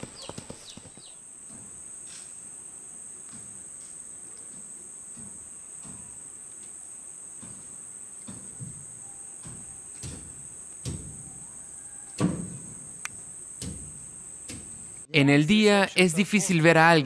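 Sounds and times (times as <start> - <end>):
insects trilling: 0.0 - 15.1.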